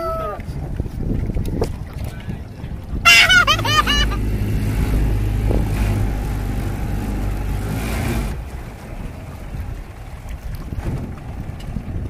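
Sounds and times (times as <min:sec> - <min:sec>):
outboard motor running: 0:01.0 - 0:12.0.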